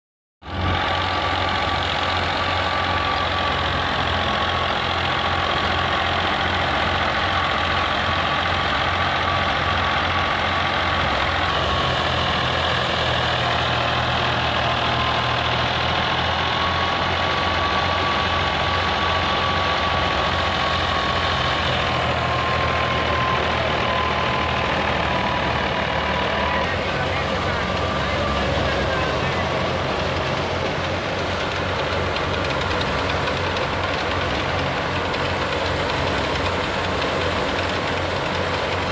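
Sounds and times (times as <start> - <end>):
diesel tractor engine running: 0.4 - 38.9
thresher whirring: 0.5 - 38.9
steady whine: 0.6 - 38.9.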